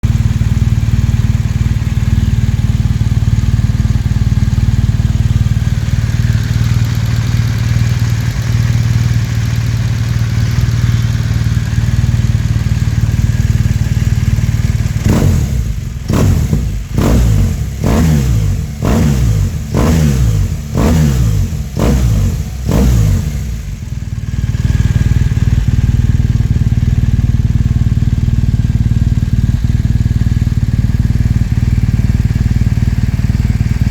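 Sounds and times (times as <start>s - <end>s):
motorcycle engine idling: 0.0s - 33.9s
motorcycle throttle blips: 0.0s - 33.9s.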